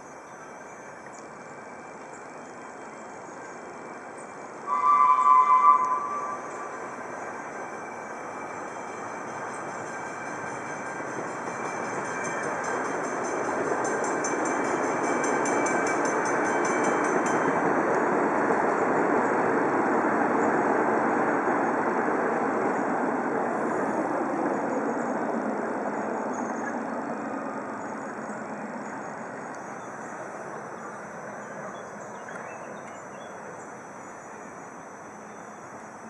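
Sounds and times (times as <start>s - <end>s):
miniature train rumbling past: 0.0s - 32.4s.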